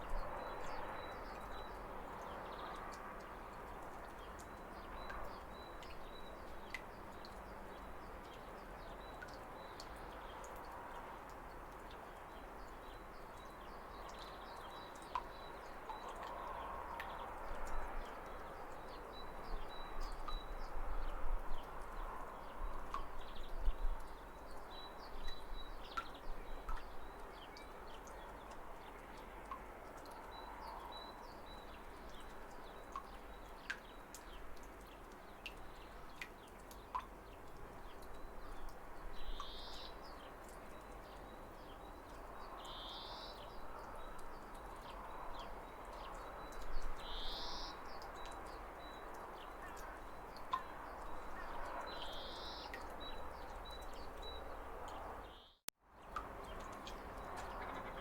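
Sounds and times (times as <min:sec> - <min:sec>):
water drips and splashes: 0:00.0 - 0:58.0.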